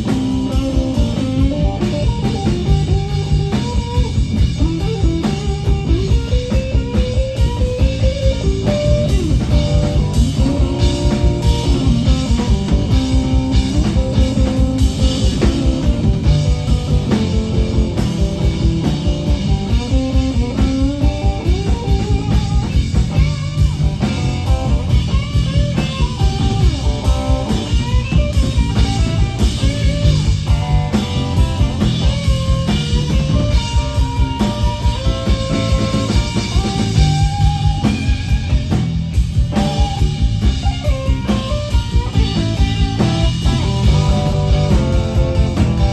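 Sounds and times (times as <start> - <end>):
bass guitar: 0.0 - 45.9
drum kit steady beat: 0.0 - 45.9
electric guitar lead with bends: 0.0 - 45.9.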